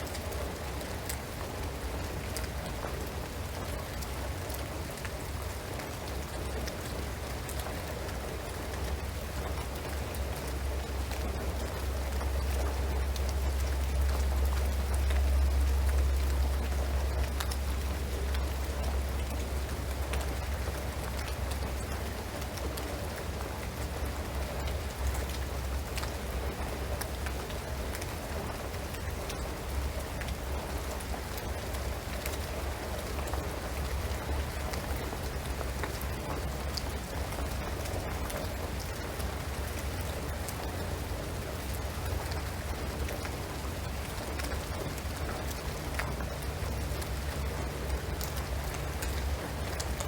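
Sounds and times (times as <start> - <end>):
rain on a shingled roof: 0.0 - 50.0.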